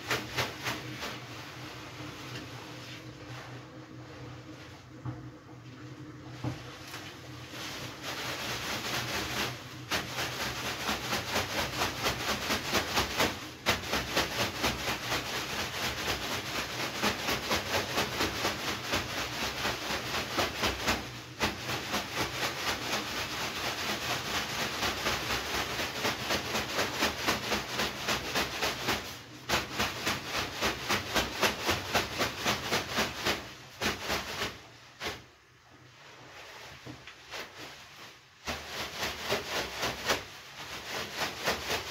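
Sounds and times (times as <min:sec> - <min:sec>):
leafy broom swishing: 0:00.0 - 0:04.9, 0:06.6 - 0:41.9.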